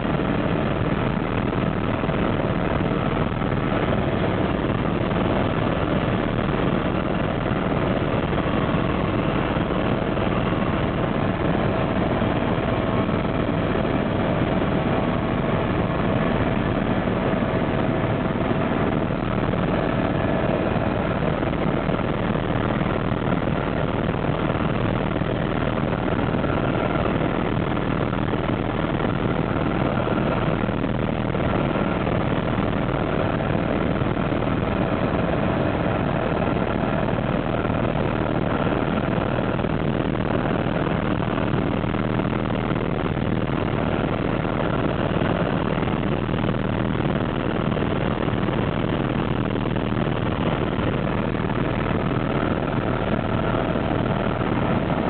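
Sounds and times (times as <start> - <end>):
helicopter engine and rotor drone: 0.0 - 55.0
steady whine: 0.0 - 55.0.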